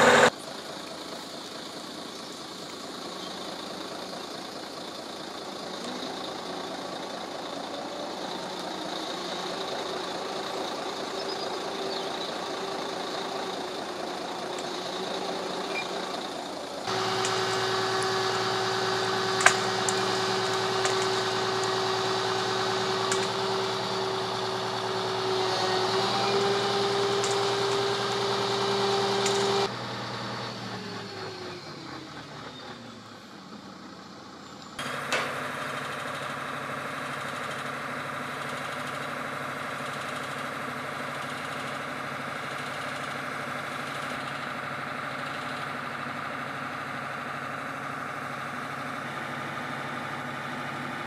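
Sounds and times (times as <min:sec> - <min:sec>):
diesel engine and winch whining: 0:00.0 - 0:51.0.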